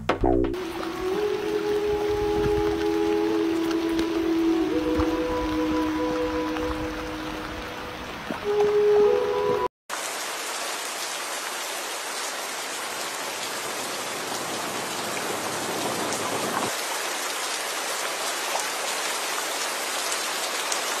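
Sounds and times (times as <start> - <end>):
waterfall splashing over rock: 0.6 - 8.8, 9.9 - 21.0.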